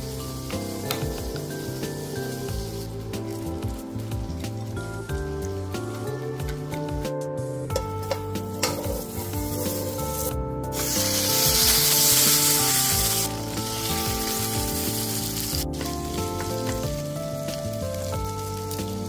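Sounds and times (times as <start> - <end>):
food sizzling in frying pan: 0.0 - 6.2, 8.4 - 19.0
background music: 0.0 - 19.0.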